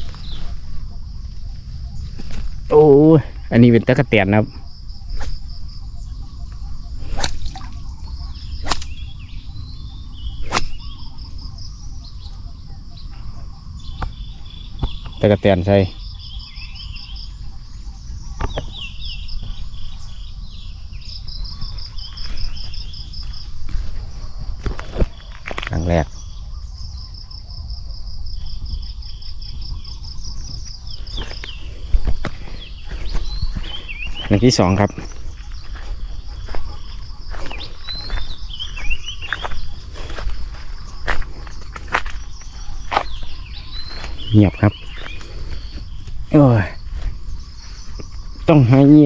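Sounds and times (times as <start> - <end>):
insects chirping: 0.0 - 49.0.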